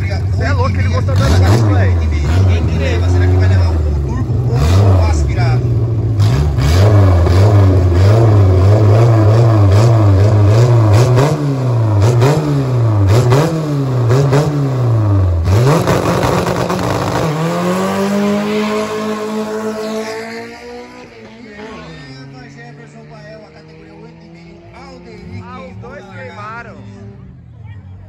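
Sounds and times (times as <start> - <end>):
car engine revving: 0.0 - 27.5.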